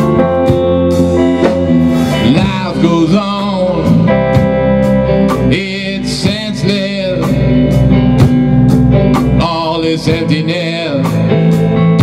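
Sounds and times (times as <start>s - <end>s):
drum kit beat: 0.0s - 12.0s
electric guitars ringing: 0.0s - 12.0s.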